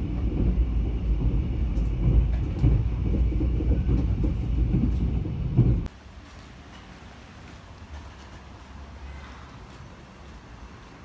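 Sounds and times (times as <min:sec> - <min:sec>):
train carriage rumbling on rails: 0:00.0 - 0:11.0.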